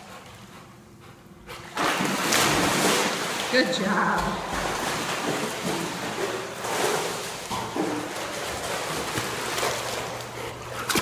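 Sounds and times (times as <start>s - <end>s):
dog paddling in pool water: 0.0s - 11.0s.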